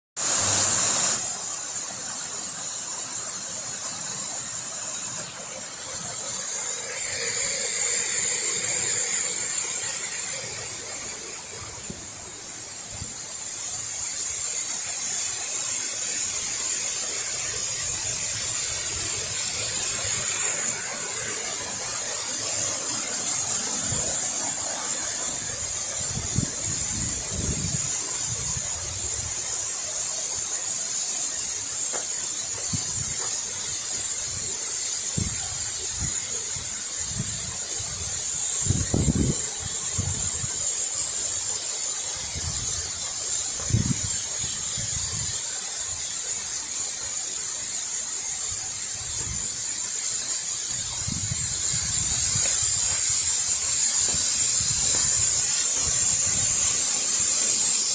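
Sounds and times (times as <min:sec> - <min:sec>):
high-pitched hiss: 0:00.2 - 0:57.9
waterfall rushing: 0:00.2 - 0:57.9.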